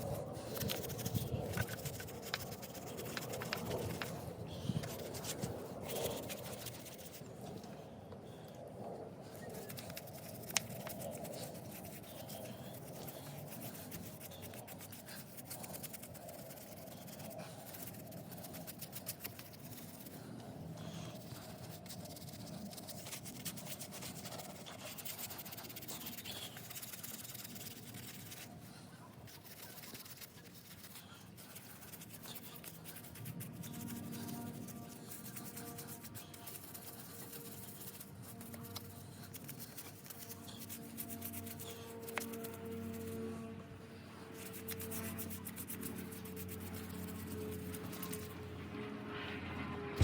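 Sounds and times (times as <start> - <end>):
brush scrubbing metal: 0.0 - 7.3, 9.3 - 43.5, 44.2 - 48.4.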